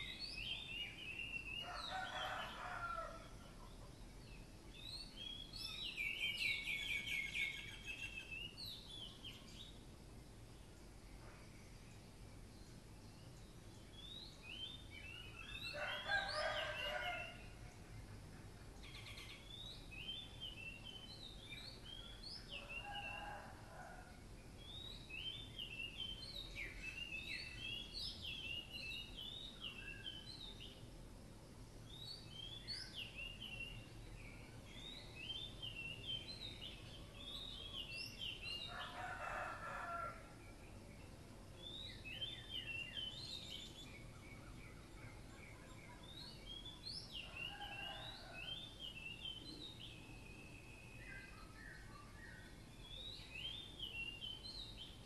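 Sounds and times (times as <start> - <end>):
small birds twittering: 0.0 - 23.5, 31.8 - 55.0.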